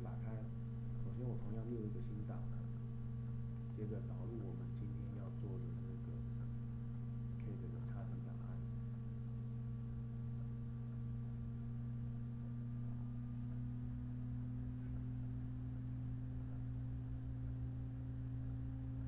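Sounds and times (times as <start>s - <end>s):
faint steady tones: 0.0s - 19.0s
steady low hum: 0.0s - 19.0s.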